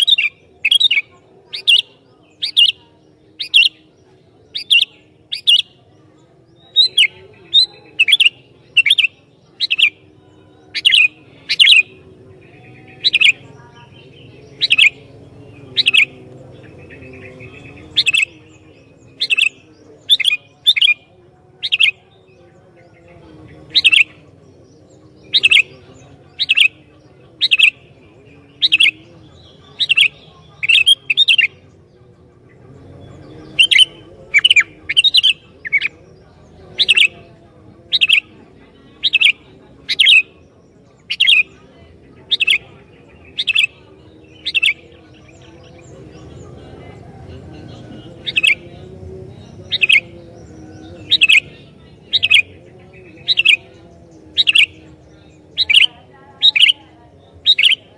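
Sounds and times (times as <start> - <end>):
bulbul calling in sharp notes: 0.0 - 3.9, 4.5 - 5.9, 6.6 - 22.1, 23.0 - 24.4, 25.1 - 31.6, 32.7 - 38.4, 39.0 - 57.9.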